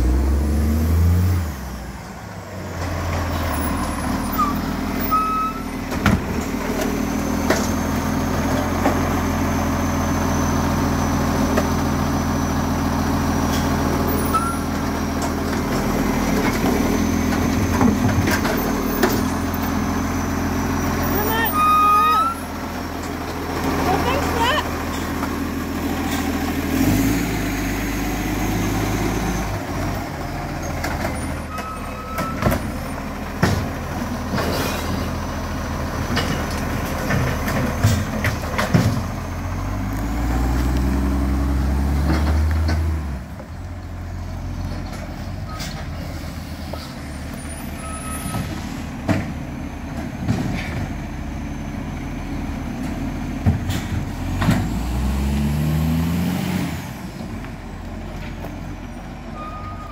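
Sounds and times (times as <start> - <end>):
diesel engine pulling away: 0.0 - 59.9.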